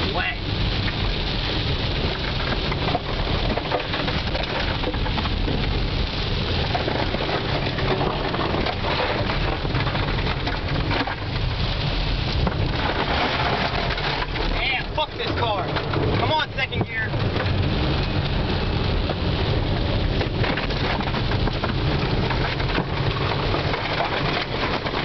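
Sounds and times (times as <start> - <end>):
gravel clattering against car: 0.0 - 25.0
tyre and water rush: 0.0 - 25.0.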